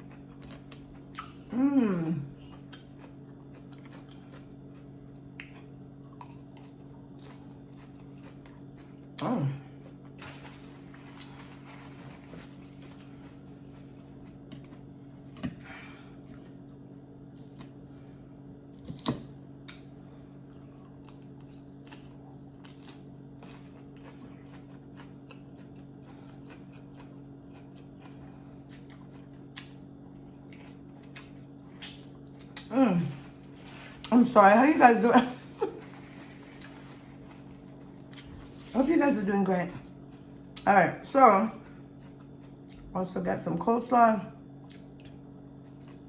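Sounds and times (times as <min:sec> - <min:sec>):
soft chewing: 0:00.0 - 0:18.1, 0:18.8 - 0:34.3, 0:35.3 - 0:40.7, 0:41.6 - 0:43.0, 0:44.5 - 0:46.0
steady low hum: 0:00.0 - 0:46.0.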